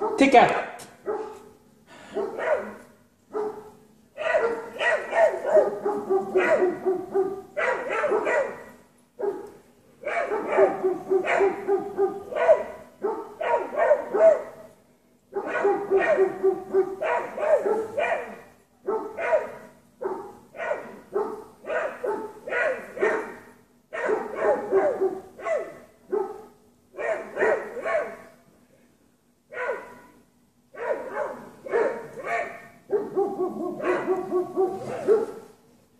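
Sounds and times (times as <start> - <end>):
dogs barking excitedly: 0.0 - 28.5, 29.5 - 35.6.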